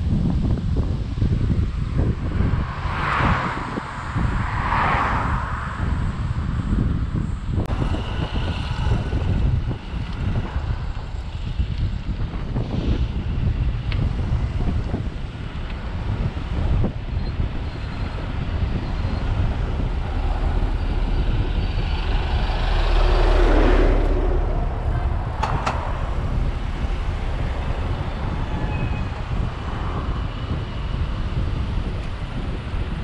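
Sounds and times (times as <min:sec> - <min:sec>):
city bus passing: 0:00.0 - 0:33.0
road traffic noise: 0:00.0 - 0:33.0
wind rumble on microphone: 0:00.0 - 0:33.0.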